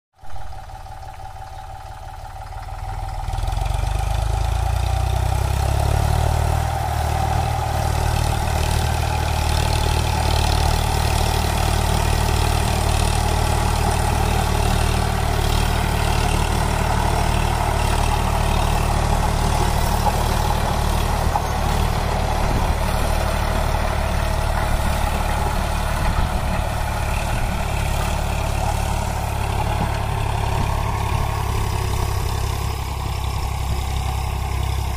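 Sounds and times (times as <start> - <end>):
tractor diesel engine under load: 0.2 - 34.9.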